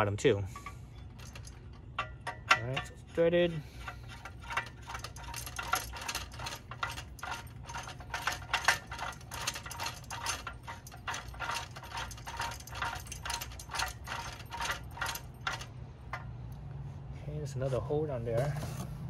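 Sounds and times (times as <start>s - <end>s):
metallic clicking and rattling: 0.5s - 16.6s.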